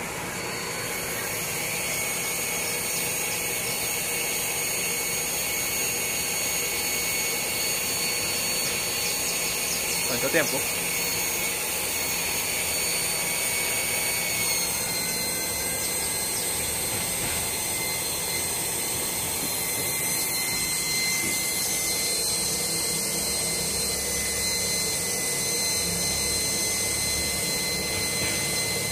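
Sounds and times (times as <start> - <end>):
electric pump motor whine: 0.0 - 28.9.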